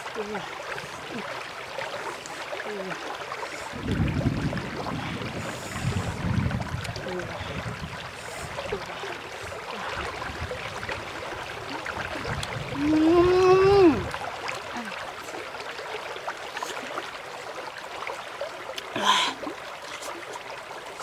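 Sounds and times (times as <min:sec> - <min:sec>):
heavy water surges: 0:00.0 - 0:21.0
water splashing and sloshing: 0:00.0 - 0:21.0.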